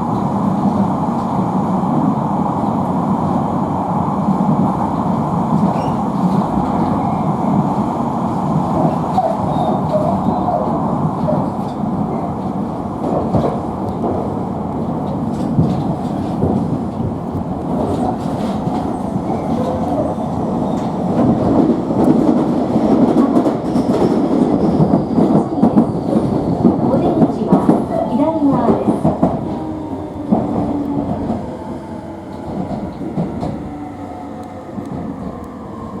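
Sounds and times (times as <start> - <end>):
train wheels clattering over rails: 4.3 - 34.0.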